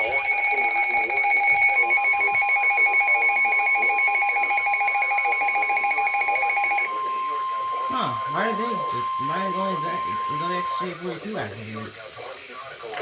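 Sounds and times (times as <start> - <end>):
pulsing two-pitch alert tone: 0.0 - 11.2
steady warning tone: 0.0 - 12.0.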